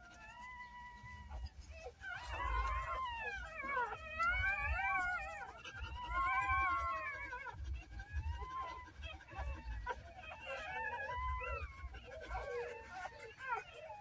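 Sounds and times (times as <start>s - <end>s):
newborn puppies crying: 0.0s - 14.0s.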